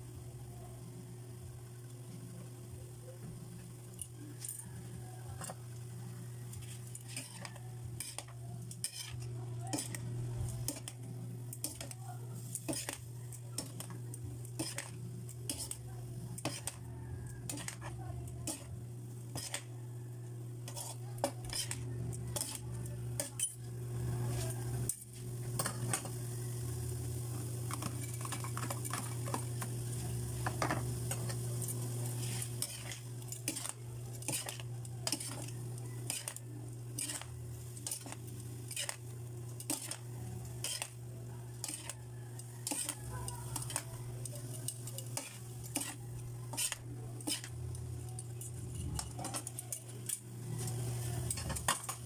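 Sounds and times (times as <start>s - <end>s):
noodles sizzling in a pan: 0.0s - 52.0s
steady low hum: 0.0s - 52.0s
spatula and tongs scraping a wok: 3.6s - 19.9s, 20.6s - 52.0s.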